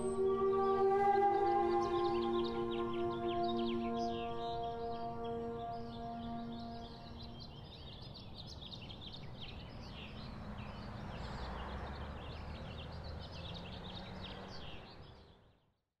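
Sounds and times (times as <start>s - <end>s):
small birds chirping: 0.0s - 15.5s.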